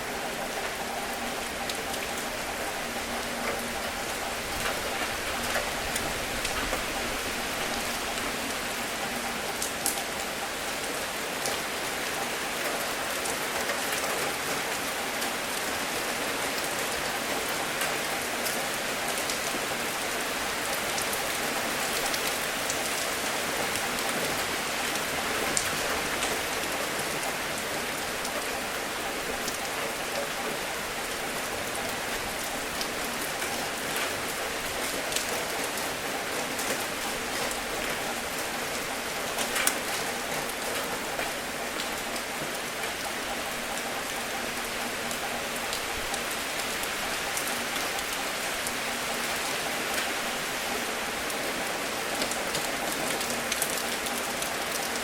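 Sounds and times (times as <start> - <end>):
steady rain falling: 0.0 - 55.0
raindrops ticking: 0.1 - 15.8, 16.6 - 55.0.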